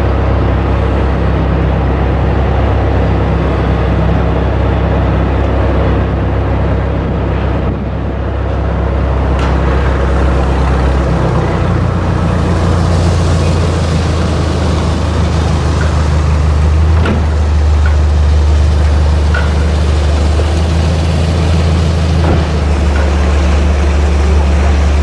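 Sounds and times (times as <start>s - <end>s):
ship diesel engine humming: 0.0s - 25.0s.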